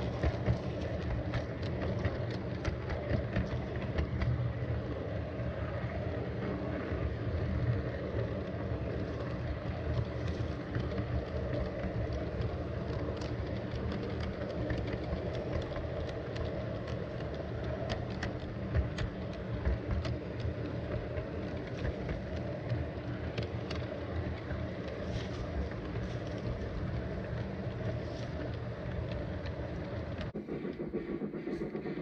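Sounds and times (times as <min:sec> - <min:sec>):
model train wheels rumbling: 0:00.0 - 0:32.0.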